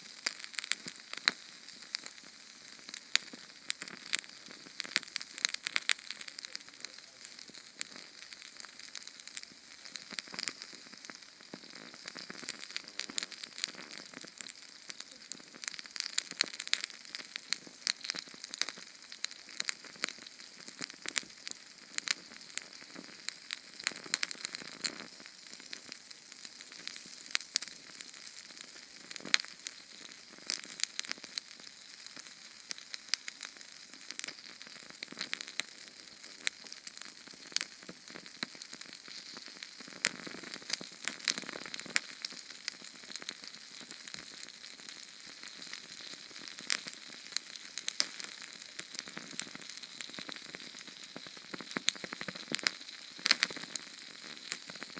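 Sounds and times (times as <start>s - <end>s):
canned fuel flame hissing and crackling: 0.0s - 54.9s.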